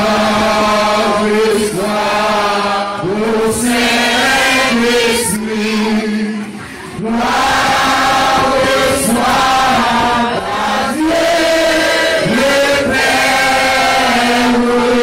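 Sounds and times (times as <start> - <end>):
group of voices chanting: 0.0 - 15.0.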